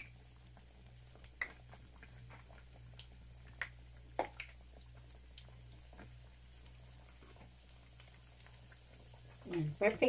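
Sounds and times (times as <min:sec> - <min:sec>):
oil crackling in a pan: 0:00.0 - 0:10.0.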